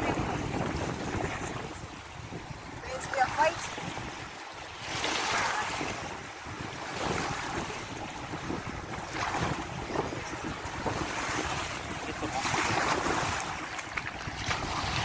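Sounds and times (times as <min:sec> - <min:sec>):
small waves washing ashore: 0:00.0 - 0:15.0
wind buffeting microphone: 0:00.0 - 0:15.0.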